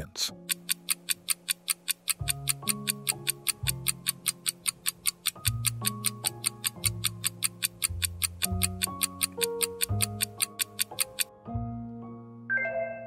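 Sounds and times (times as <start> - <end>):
background music low chords: 0.0 - 13.0
clock ticking: 0.2 - 11.3.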